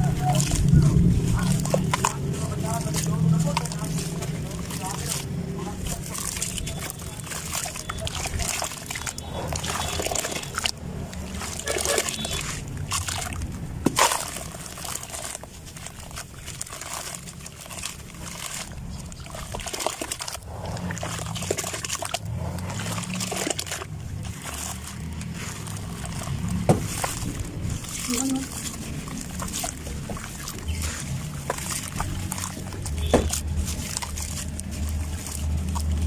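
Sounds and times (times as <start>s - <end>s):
water sloshing and splashing: 0.0s - 36.0s
wet sand crumbling in water: 0.0s - 36.0s.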